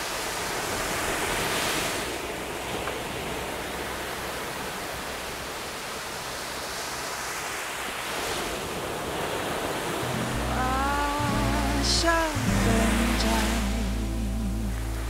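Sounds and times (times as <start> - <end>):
small waves washing up beach: 0.0 - 15.0.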